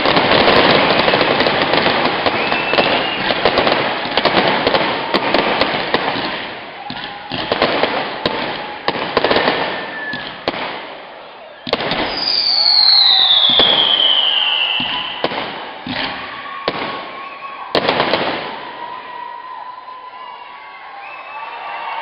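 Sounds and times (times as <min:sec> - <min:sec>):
fireworks bangs and crackles: 0:00.0 - 0:19.6
whistling firework: 0:00.0 - 0:22.0.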